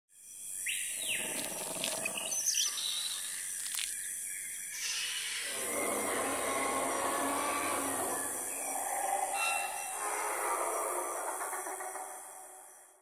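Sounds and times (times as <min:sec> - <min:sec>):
bird calls and chirps: 0:00.2 - 0:13.0.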